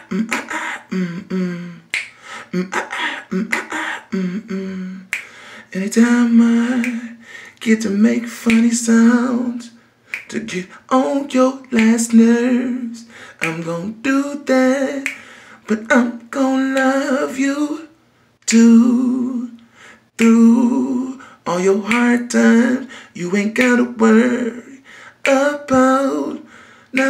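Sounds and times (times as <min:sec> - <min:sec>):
person singing unaccompanied: 0:00.0 - 0:27.0.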